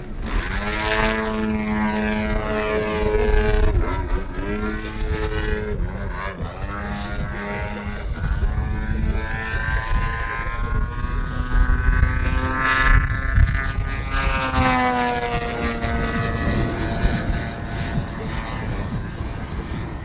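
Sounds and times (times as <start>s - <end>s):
model plane engine flying past: 0.0s - 20.0s.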